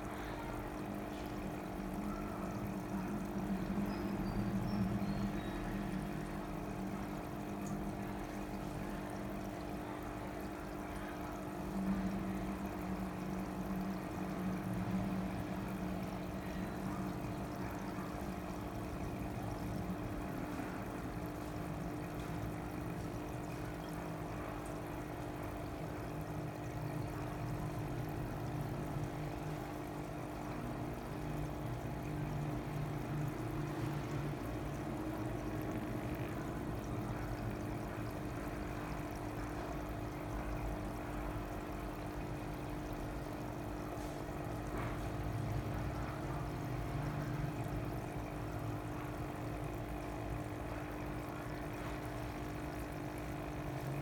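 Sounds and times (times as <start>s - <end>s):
low hum of water pumps: 0.0s - 54.0s
water pouring and trickling: 0.0s - 54.0s.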